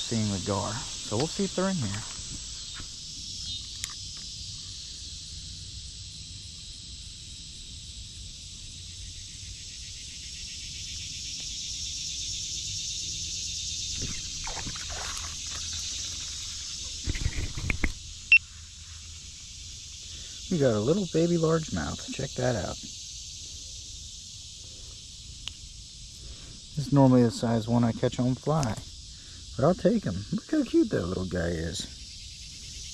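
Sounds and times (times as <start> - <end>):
insect chorus: 0.0 - 32.9.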